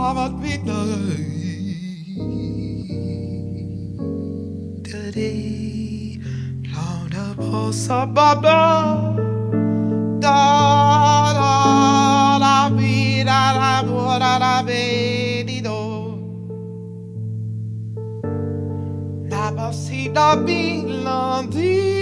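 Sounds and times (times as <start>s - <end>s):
piano and keyboard chords: 0.0s - 22.0s.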